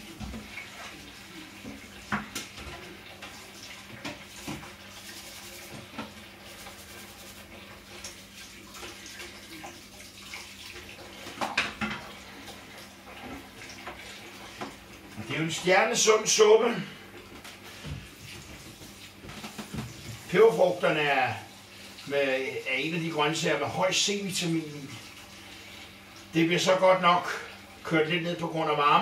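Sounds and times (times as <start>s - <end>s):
tap water running into sink: 0.0s - 16.0s, 17.2s - 26.8s.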